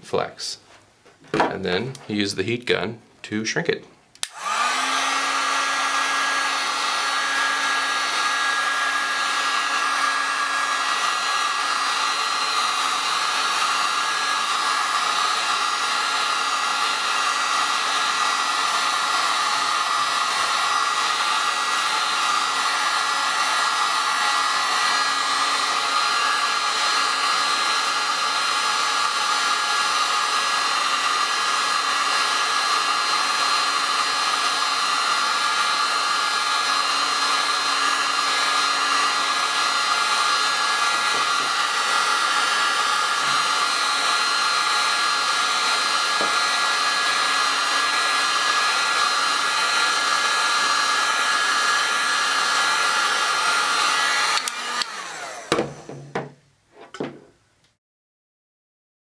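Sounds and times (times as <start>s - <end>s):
heat gun blowing hot air: 4.2s - 56.2s.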